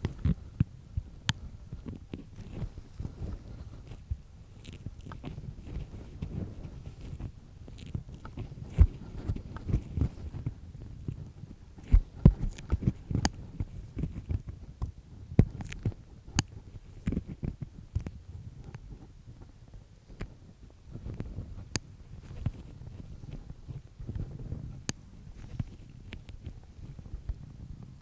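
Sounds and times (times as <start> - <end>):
ear pick scraping: 0.0 - 27.8.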